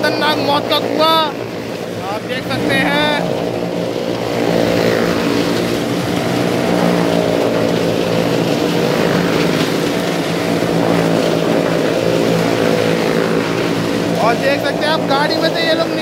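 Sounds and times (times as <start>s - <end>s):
car engine revving high: 0.0s - 16.0s.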